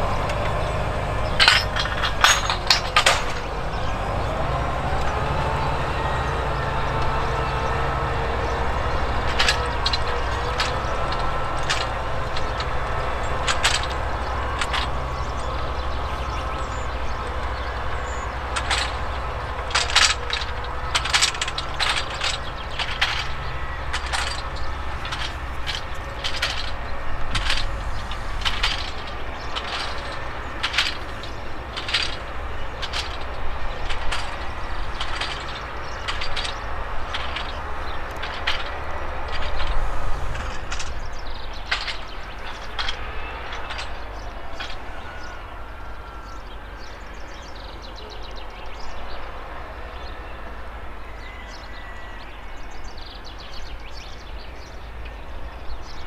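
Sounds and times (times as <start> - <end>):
plough cracking through soil: 0.0 - 46.6
tractor diesel engine running: 0.0 - 56.0.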